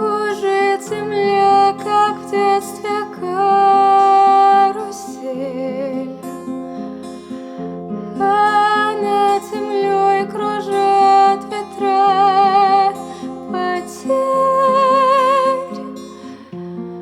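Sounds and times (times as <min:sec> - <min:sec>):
woman singing with vibrato: 0:00.0 - 0:06.5, 0:08.1 - 0:16.5
plucked acoustic guitar: 0:00.0 - 0:17.0.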